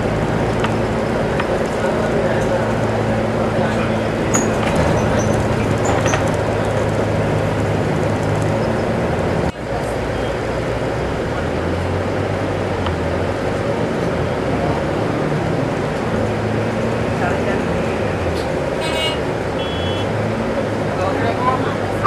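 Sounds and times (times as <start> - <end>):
bus engine hum: 0.0 - 22.0
road noise: 0.0 - 22.0.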